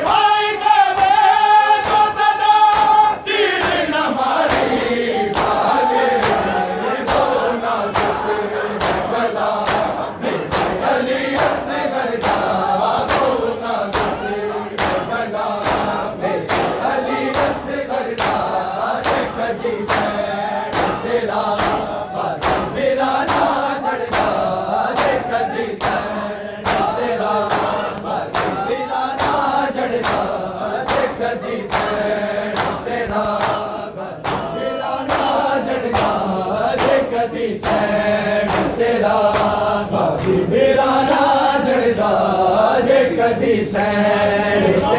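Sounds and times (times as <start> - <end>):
men chanting together: 0.0 - 44.9
hands slapping chests: 0.9 - 40.5.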